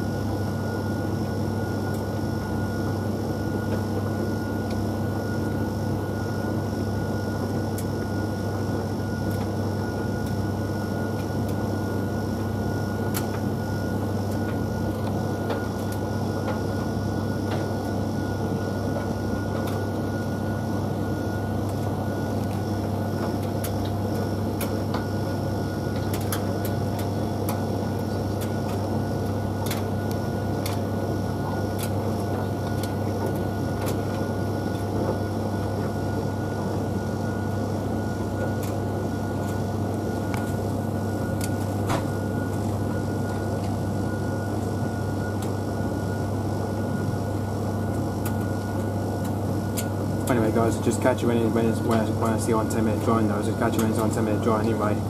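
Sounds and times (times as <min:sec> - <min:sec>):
tumble dryer humming: 0:00.0 - 0:55.0.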